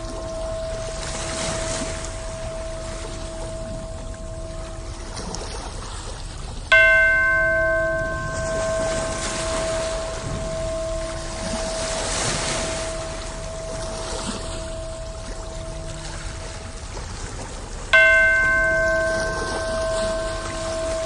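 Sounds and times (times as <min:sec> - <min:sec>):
bell ringing: 0:00.0 - 0:05.7, 0:06.7 - 0:21.0
ocean waves washing: 0:00.0 - 0:21.0.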